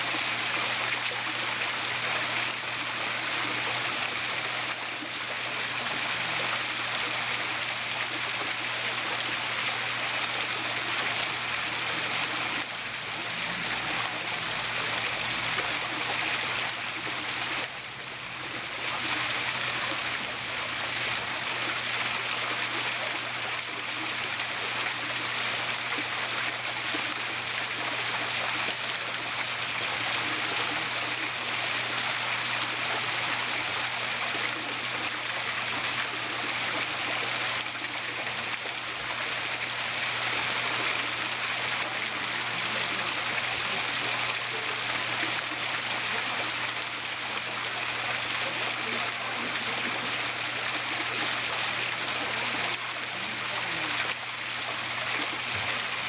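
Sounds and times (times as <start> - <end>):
small waterfall pouring into pond: 0.0 - 56.0.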